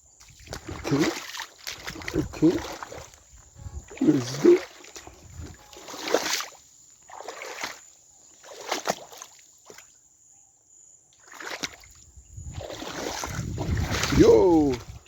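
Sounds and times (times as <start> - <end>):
feet splashing through water: 0.2 - 10.0, 11.2 - 15.0.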